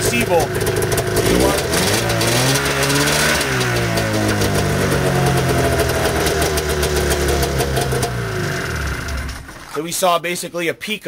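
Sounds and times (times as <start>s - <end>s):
snowmobile engine running: 0.0s - 9.7s.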